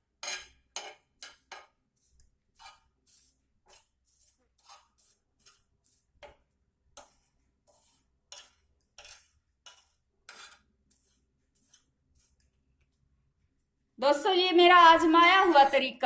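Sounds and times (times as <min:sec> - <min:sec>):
spoon scraping leaves in a pan: 0:00.0 - 0:12.9.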